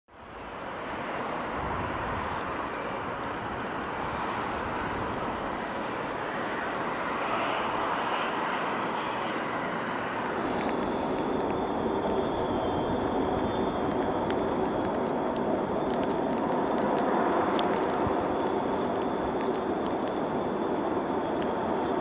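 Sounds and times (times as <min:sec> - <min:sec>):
electric locomotives running: 0:00.4 - 0:22.0
wheels squealing on rails: 0:00.9 - 0:22.0.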